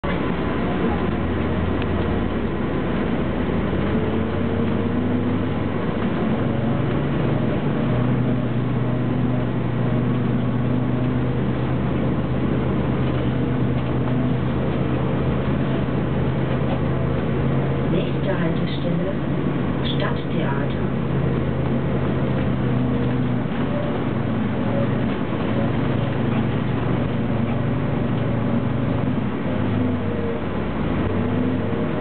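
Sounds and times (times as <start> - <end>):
bus engine humming: 0.0 - 32.0.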